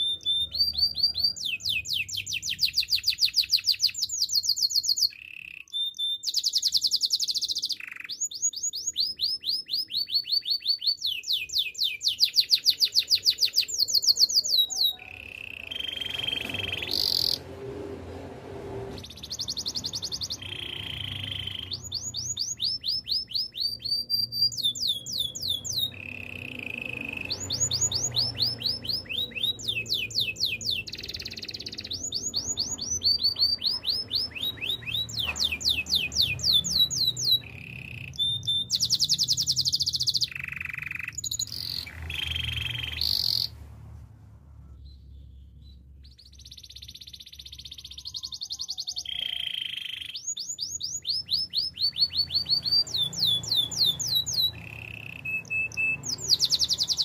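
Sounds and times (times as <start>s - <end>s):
canary singing: 0.0s - 17.6s, 18.9s - 43.7s, 44.8s - 57.0s.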